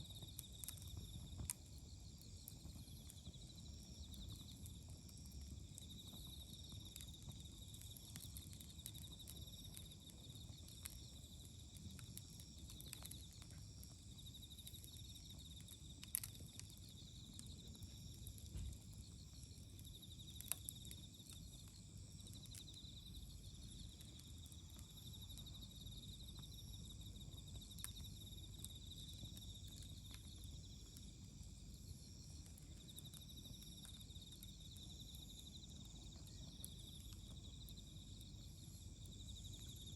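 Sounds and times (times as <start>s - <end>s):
campfire crackling and popping: 0.0s - 39.9s
insects trilling: 0.0s - 39.9s.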